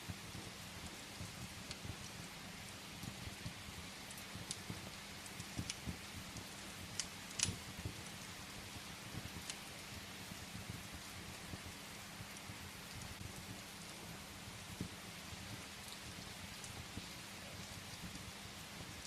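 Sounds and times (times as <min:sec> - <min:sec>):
steady rain hiss: 0:00.0 - 0:19.0
wood fire crackling and popping: 0:00.0 - 0:19.0.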